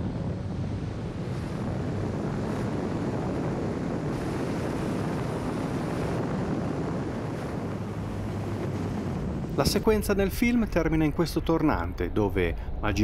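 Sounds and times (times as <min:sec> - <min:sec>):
low engine hum: 0:00.0 - 0:13.0
road and wind noise: 0:00.0 - 0:13.0
wind buffeting microphone: 0:00.0 - 0:13.0.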